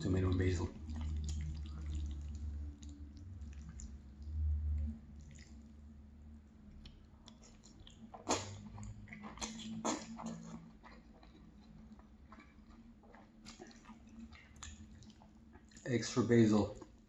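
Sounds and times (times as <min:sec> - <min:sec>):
chewing with wet mouth sounds: 0:00.0 - 0:17.0
wet mouth clicks and smacks: 0:00.8 - 0:05.6, 0:06.7 - 0:15.9.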